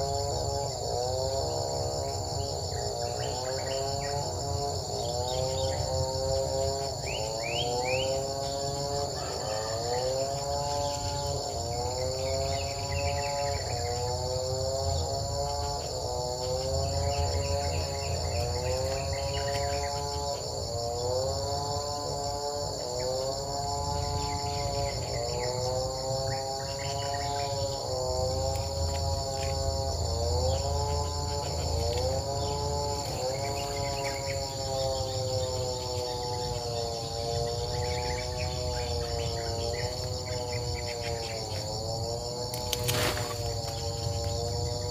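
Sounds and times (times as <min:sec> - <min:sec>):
continuous humming tone: 0:00.0 - 0:44.9
insect chorus trilling: 0:00.0 - 0:44.9.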